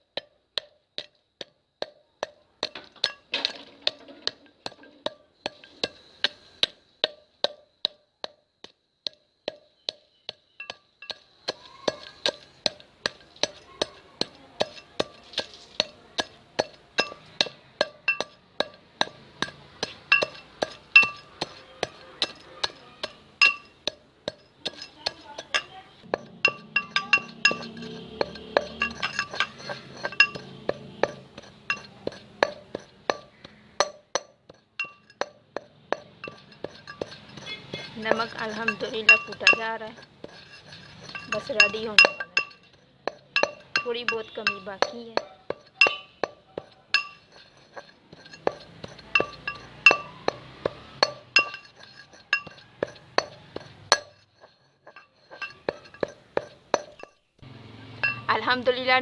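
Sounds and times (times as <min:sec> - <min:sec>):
pestle pounding salt in mortar: 0:00.0 - 0:59.0.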